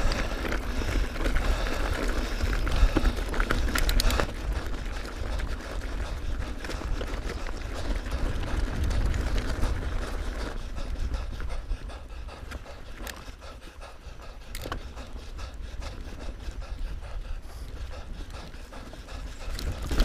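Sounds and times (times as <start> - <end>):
wind on microphone: 0.0 - 13.3, 14.5 - 20.0
bike clicks and rattles: 0.0 - 20.0.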